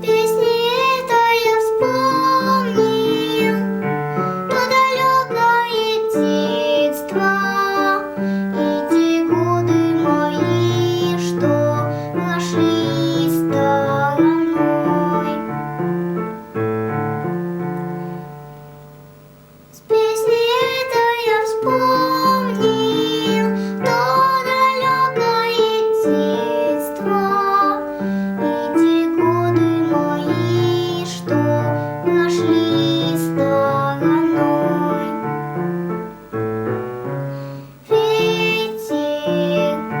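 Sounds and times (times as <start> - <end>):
girl singing: 0.0 - 16.4, 19.7 - 36.3, 37.3 - 40.0
piano keyboard accompaniment: 0.0 - 40.0.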